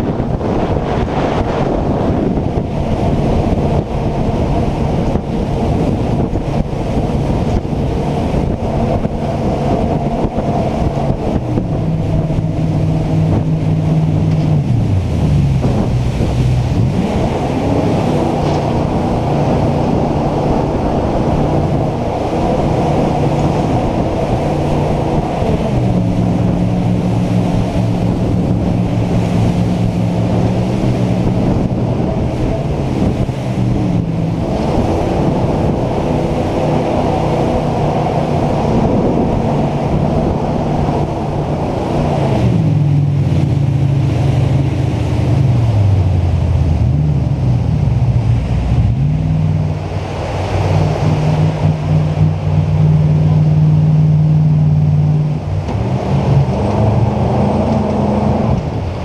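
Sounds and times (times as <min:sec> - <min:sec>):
boat engine running: 0:00.0 - 0:59.0
wind buffeting microphone: 0:00.0 - 0:59.0.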